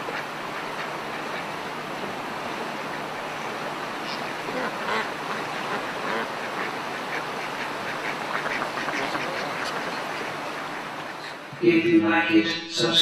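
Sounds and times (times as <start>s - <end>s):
ducks quacking: 0.0s - 11.6s.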